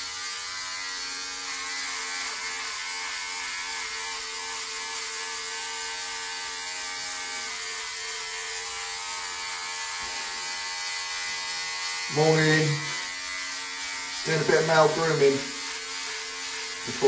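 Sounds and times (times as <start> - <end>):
electric hair trimmer buzzing: 0.0 - 17.0.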